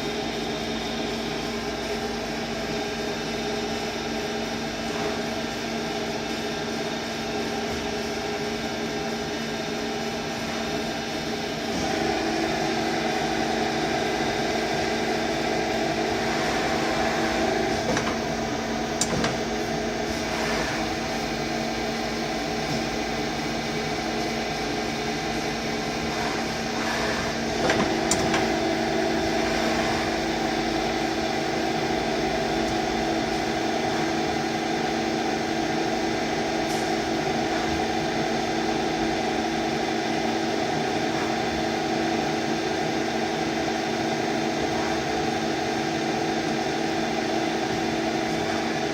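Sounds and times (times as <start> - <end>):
lathe machine hum: 0.0 - 48.9.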